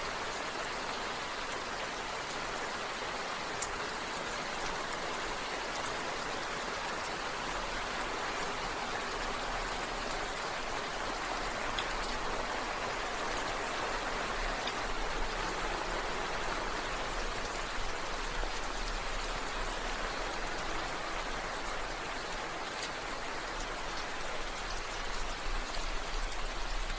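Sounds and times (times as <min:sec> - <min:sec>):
steady rain hiss: 0:00.0 - 0:26.9.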